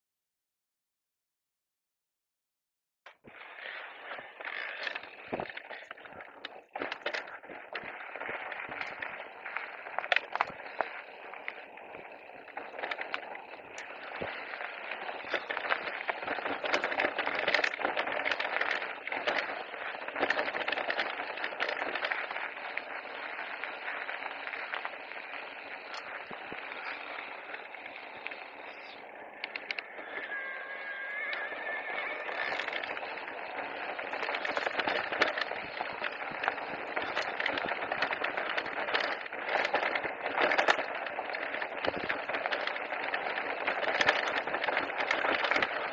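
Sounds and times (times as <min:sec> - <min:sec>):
tyre and wind noise: 0:03.1 - 0:45.9.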